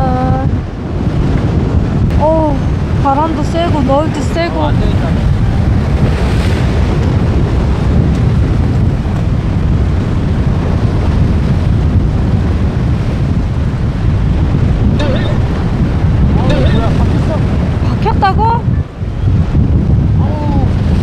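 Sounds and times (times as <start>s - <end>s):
wind buffeting microphone: 0.0s - 15.0s, 17.0s - 21.0s.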